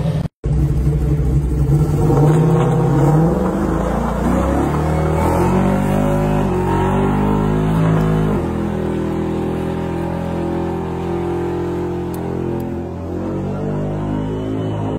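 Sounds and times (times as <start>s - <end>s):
car engine at high revs: 0.0s - 14.9s.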